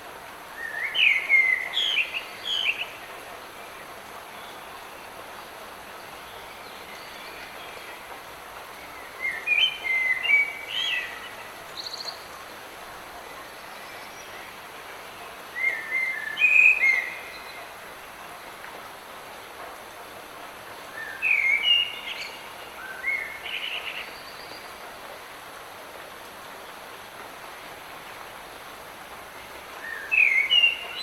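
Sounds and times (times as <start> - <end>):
light rain hissing: 0.0 - 31.0.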